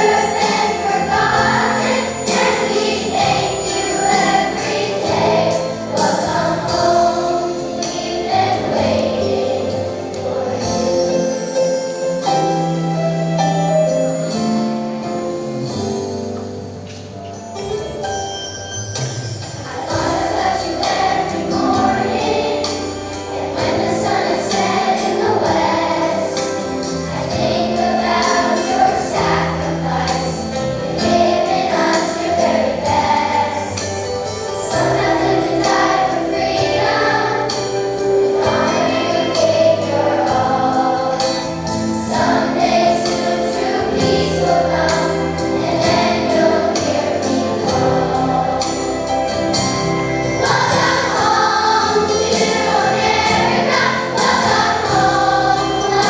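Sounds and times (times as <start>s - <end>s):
chorus singing in unison: 0.0s - 11.9s, 19.4s - 56.0s.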